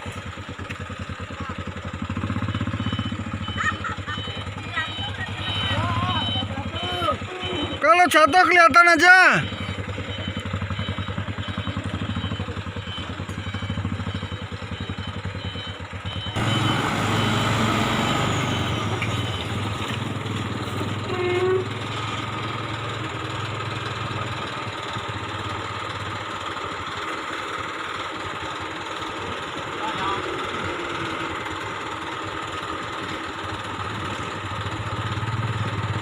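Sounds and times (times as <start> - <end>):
road noise: 0.0 - 36.0
vehicle engine running: 0.0 - 36.0.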